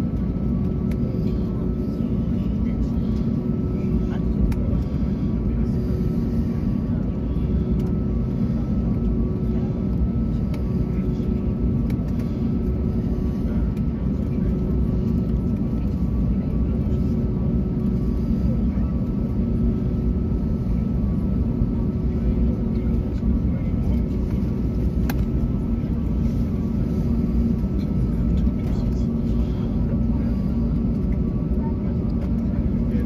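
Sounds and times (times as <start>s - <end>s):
jet engines heard from cabin: 0.0s - 33.0s.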